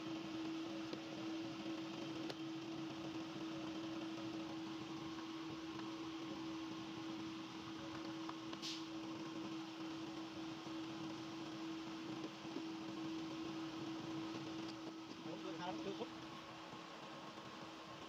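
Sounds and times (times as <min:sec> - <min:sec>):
steady hum with hiss: 0:00.0 - 0:18.0.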